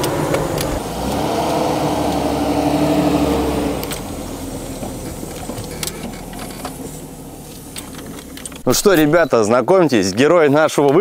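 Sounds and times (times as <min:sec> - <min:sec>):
car engine humming: 0:00.0 - 0:09.5.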